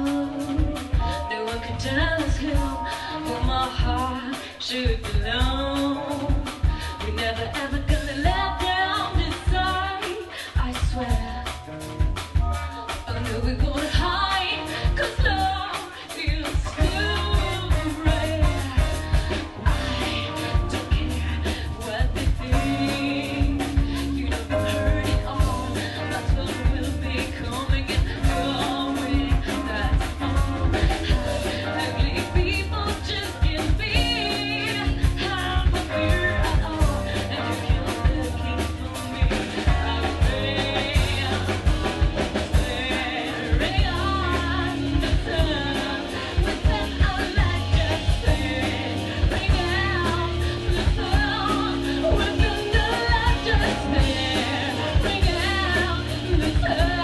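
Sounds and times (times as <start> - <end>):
drum kit beat: 0.0 - 57.0
electric bass guitar: 0.0 - 57.0
woman singing: 0.0 - 57.0.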